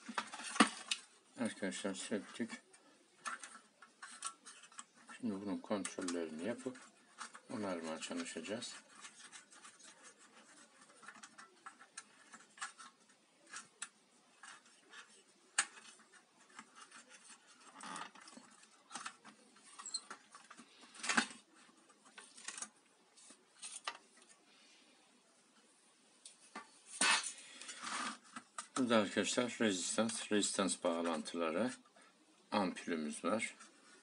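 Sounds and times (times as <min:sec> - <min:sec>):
hands handling wires and metal: 0:00.0 - 0:24.4, 0:26.2 - 0:32.0, 0:32.8 - 0:34.0.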